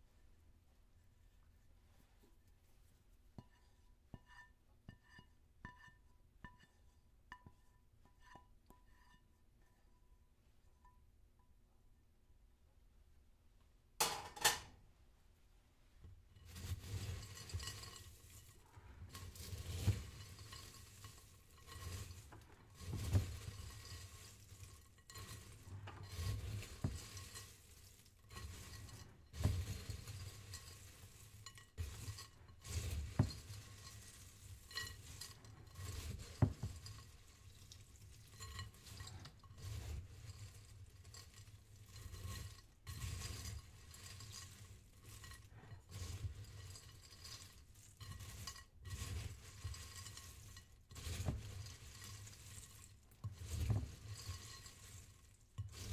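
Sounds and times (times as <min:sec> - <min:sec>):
utensil stirring in a bowl: 0:00.0 - 0:11.1, 0:15.8 - 0:55.9.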